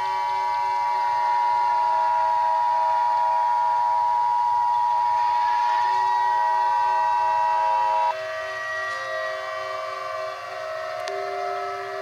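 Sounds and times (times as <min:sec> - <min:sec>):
emergency alert alarm tone: 0:00.0 - 0:12.0.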